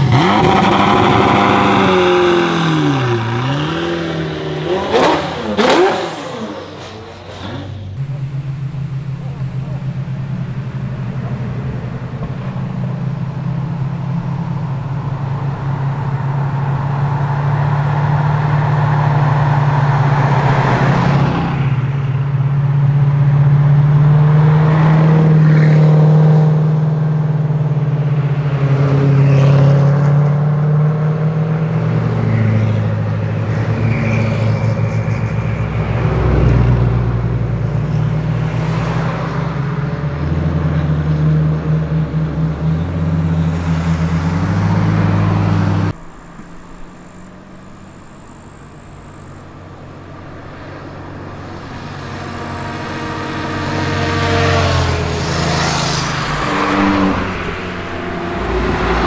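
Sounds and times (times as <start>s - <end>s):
cars driving by: 0.0s - 59.0s
engine revs: 0.0s - 59.0s.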